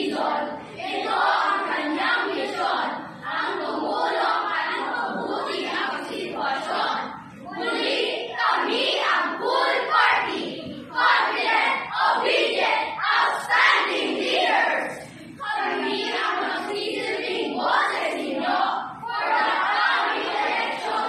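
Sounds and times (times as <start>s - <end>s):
children chanting in unison: 0.0s - 21.0s.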